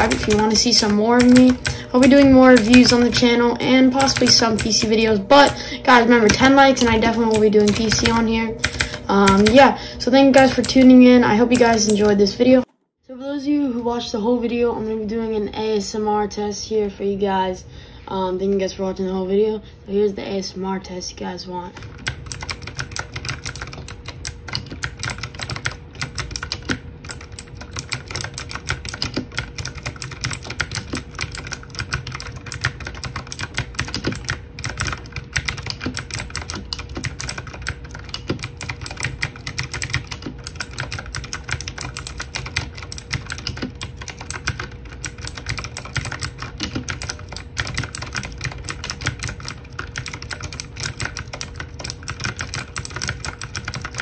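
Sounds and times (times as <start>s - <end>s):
clicky mechanical keyboard typing: 0.0s - 12.3s, 21.8s - 54.0s.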